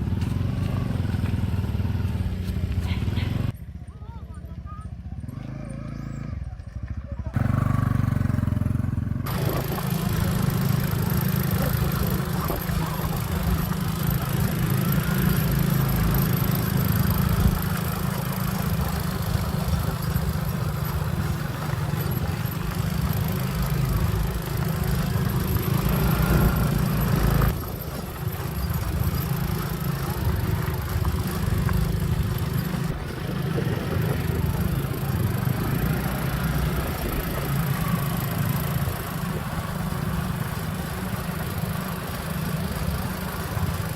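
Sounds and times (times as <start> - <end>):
motorbike engine rumbling: 0.0 - 43.9.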